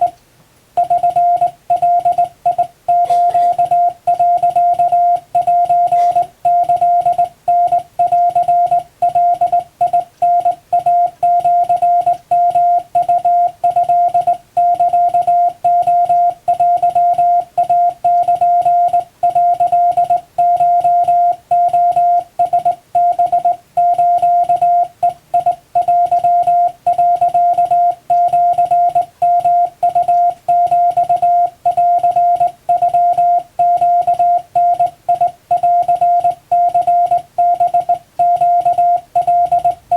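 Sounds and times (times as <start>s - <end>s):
morse code tone: 0.8s - 39.9s.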